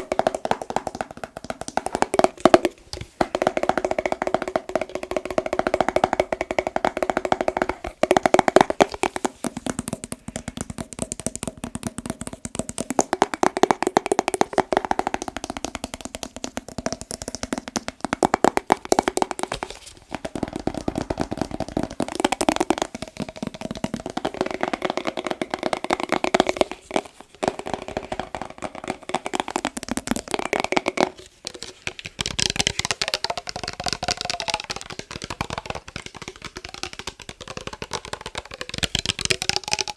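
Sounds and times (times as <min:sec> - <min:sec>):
fast tapping on glass jar: 0:00.0 - 0:39.9.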